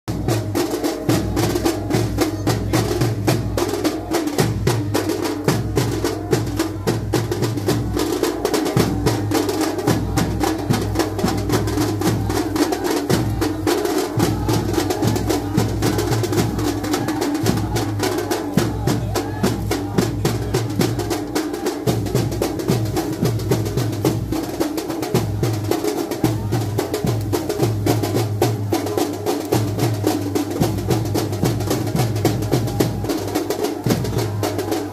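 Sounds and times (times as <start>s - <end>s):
fast driving drumming: 0.1s - 34.9s
heavy rain hissing: 0.3s - 34.9s.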